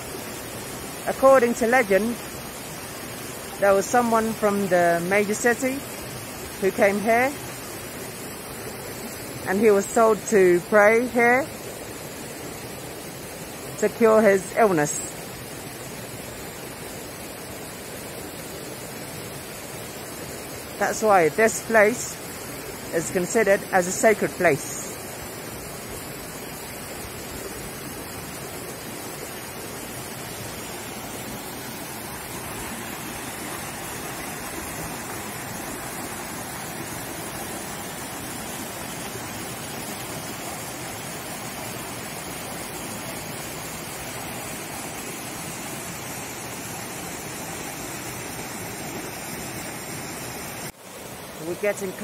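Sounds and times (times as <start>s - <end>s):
stream rushing over boulders: 0.0s - 52.0s.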